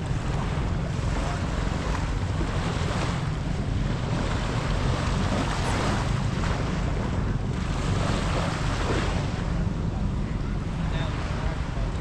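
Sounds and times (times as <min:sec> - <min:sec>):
surf on a beach: 0:00.0 - 0:12.0
wind buffeting microphone: 0:00.0 - 0:12.0.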